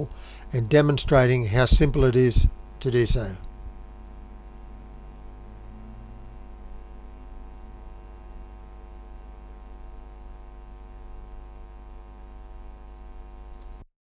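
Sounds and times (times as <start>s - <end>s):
electrical mains hum: 0.0s - 13.8s.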